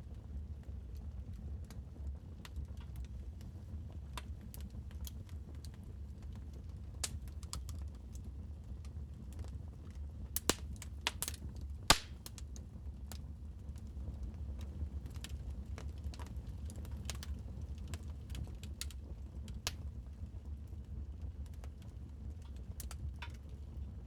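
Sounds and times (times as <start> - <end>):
wood fire crackling: 0.3 - 24.0.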